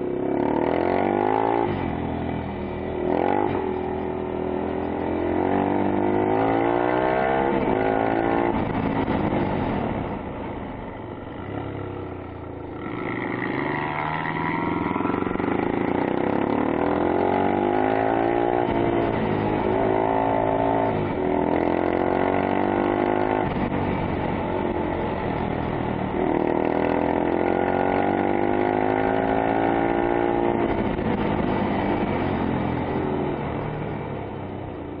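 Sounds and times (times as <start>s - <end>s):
atv engine revving: 0.0s - 2.1s, 2.7s - 10.2s, 11.4s - 34.3s.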